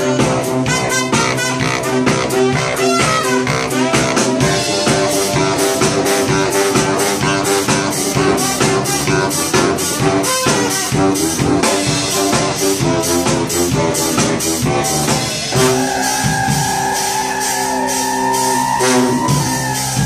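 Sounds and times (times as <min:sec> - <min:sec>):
brass band playing: 0:00.0 - 0:20.0
drum kit fast beat: 0:00.0 - 0:20.0
horns holding long notes: 0:00.0 - 0:20.0.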